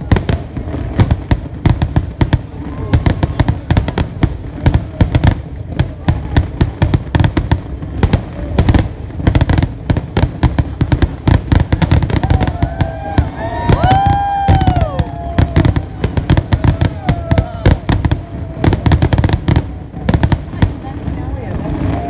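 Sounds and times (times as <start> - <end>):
deep firework booms: 0.0 - 22.0.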